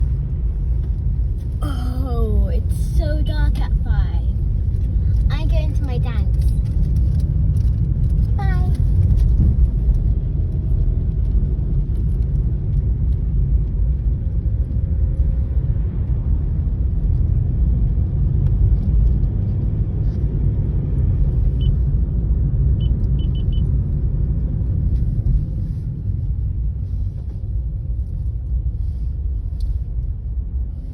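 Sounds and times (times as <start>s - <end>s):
loud low rumble: 0.0s - 30.9s.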